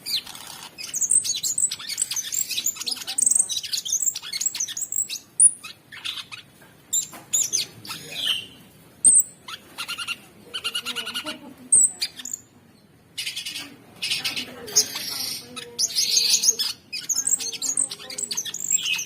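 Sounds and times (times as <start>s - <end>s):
bird singing: 0.0s - 19.0s.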